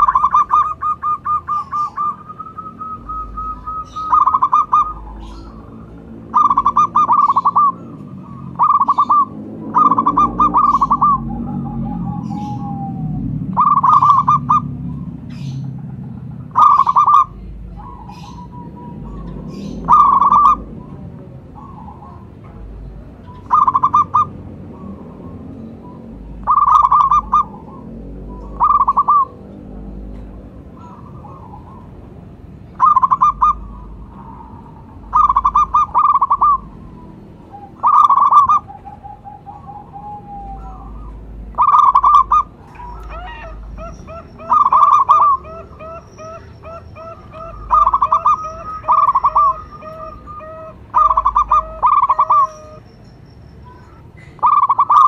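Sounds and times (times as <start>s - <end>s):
dove cooing trills: 0.0s - 55.0s.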